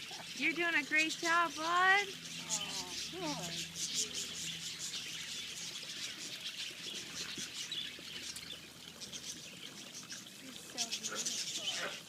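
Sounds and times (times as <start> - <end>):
budgies chirping: 0.0 - 12.0.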